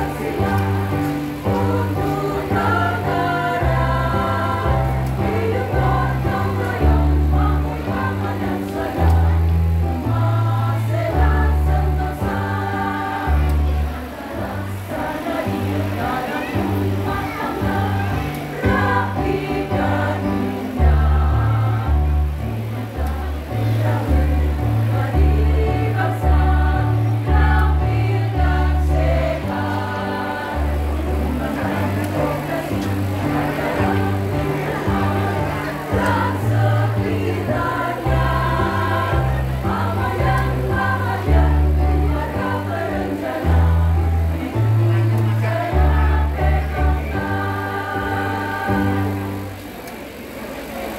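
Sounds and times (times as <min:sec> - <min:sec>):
electronic keyboard accompaniment: 0:00.0 - 0:50.9
women's choir singing: 0:00.0 - 0:50.9.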